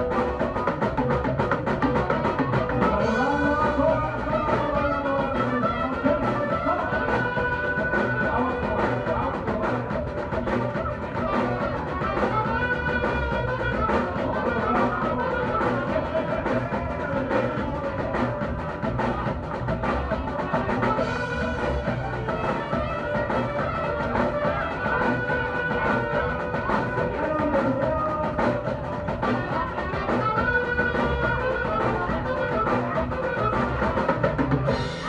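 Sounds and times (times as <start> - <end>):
drum kit beat: 0.0 - 35.0.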